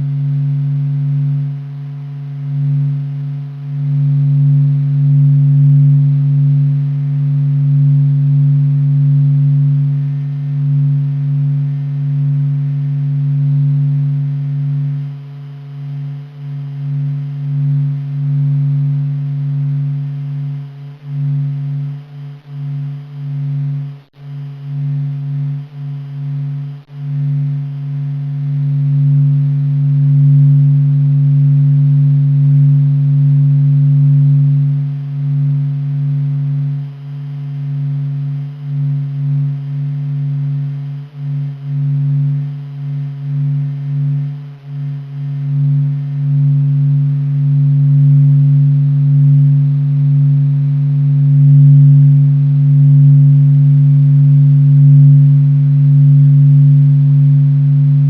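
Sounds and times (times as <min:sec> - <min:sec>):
deep continuous drone: 0:00.0 - 0:58.0.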